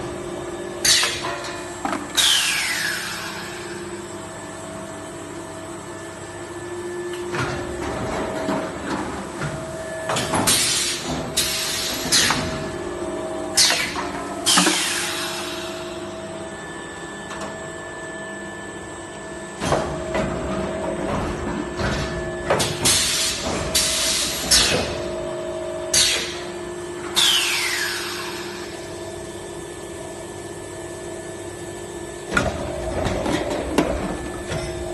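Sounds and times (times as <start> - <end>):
machine hum: 0.0 - 34.9.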